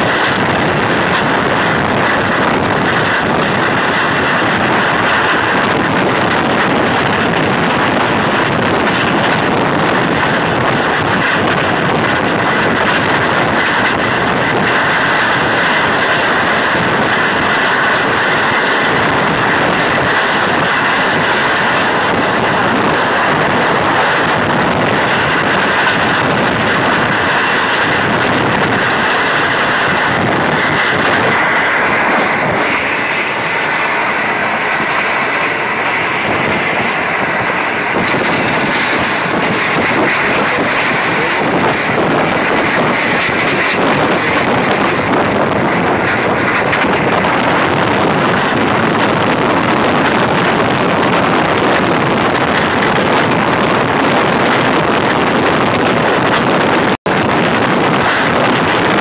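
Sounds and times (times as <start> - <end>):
train wheels rushing on rails: 0.0 - 59.0.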